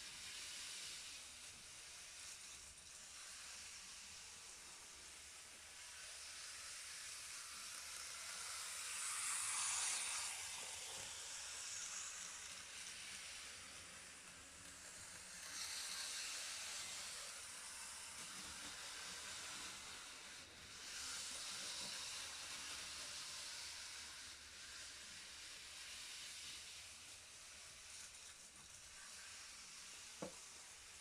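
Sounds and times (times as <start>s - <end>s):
model train whirring on track: 0.0s - 31.0s.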